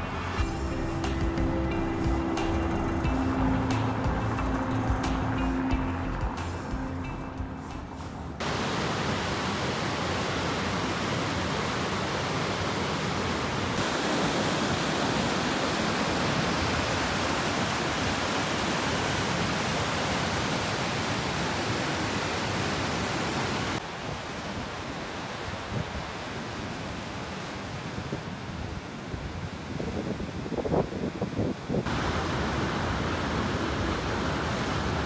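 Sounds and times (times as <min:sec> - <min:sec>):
river rapids rushing: 0:00.1 - 0:28.0, 0:31.9 - 0:35.0.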